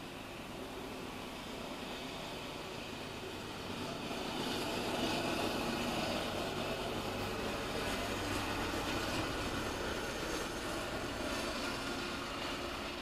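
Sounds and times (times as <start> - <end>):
diesel locomotive engine drone: 0.0 - 13.0
train wheel and rail noise: 0.0 - 13.0.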